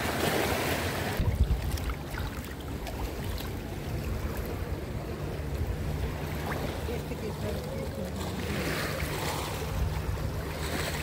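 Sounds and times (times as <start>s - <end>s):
water lapping at shoreline: 0.0s - 11.0s
wind rumbling on microphone: 1.0s - 11.0s.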